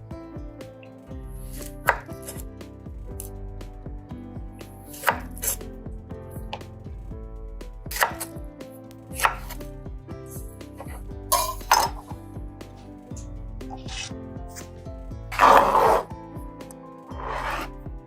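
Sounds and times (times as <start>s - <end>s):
soft background music: 0.0s - 18.0s.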